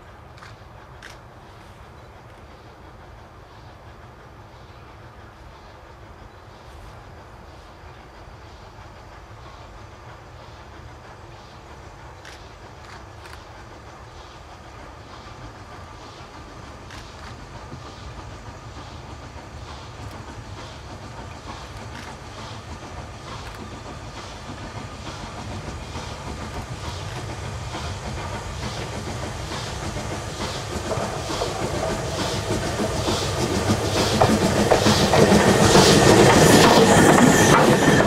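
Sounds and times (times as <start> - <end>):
steam locomotive exhaust beating: 0.0 - 38.0.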